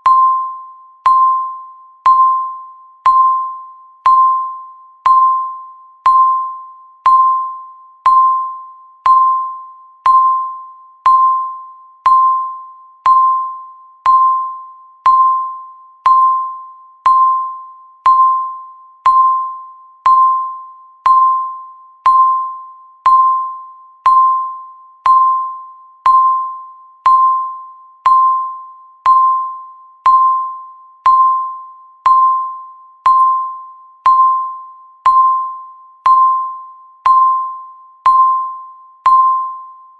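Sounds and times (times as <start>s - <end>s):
electronic timer beep: 0.0s - 39.9s.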